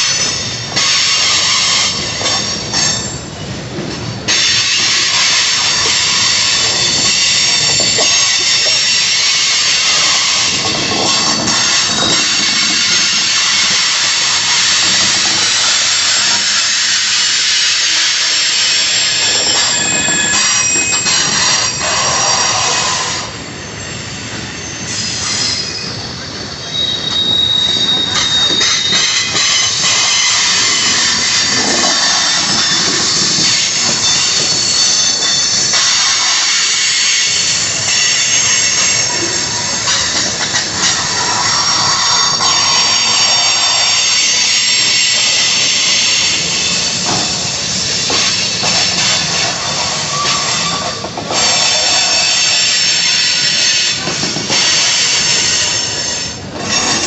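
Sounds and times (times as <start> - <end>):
freight cars rolling on rails: 0.0 - 57.0
wheel squeal: 4.3 - 57.0.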